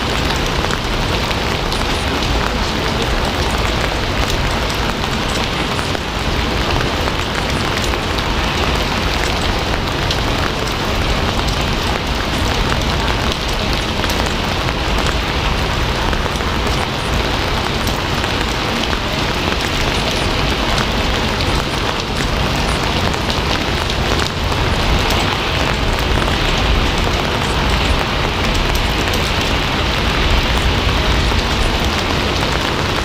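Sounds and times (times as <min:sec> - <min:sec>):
heavy rain on a surface: 0:00.0 - 0:33.0.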